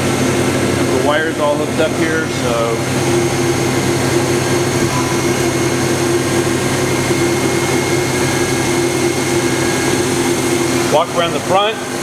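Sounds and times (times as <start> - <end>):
machine cooling fans whirring: 0.0 - 12.0.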